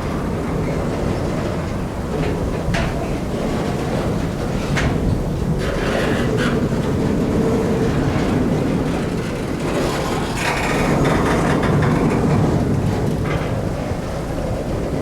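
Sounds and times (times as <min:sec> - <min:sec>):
freight train rumbling past: 0:00.0 - 0:15.0
train wheels clacking on rails: 0:00.0 - 0:15.0.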